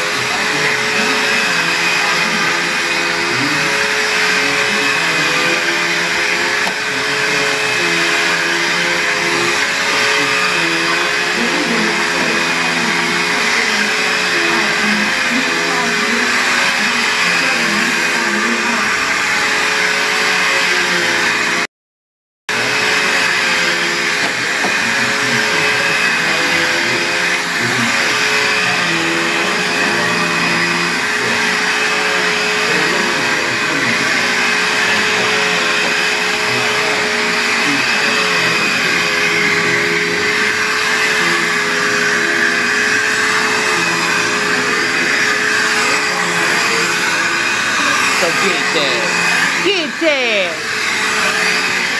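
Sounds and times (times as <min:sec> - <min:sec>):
vacuum cleaner motor running: 0:00.0 - 0:21.7, 0:22.5 - 0:51.9.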